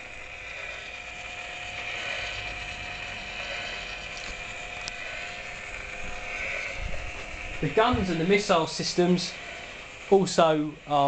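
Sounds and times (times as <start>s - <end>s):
electric motors whirring: 0.0s - 11.0s.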